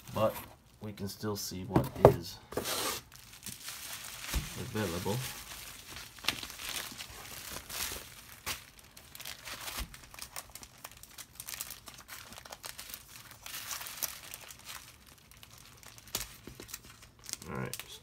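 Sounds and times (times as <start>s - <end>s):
bubble wrap crinkling: 2.6s - 18.0s.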